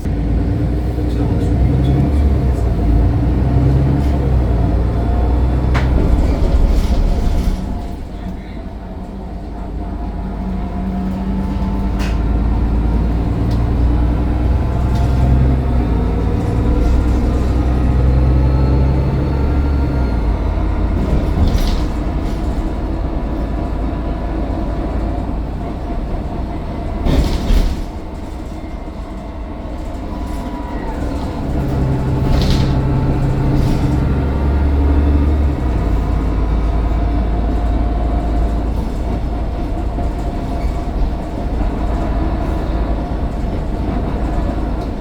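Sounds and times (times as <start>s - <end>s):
bus diesel engine accelerating: 0.0s - 45.0s.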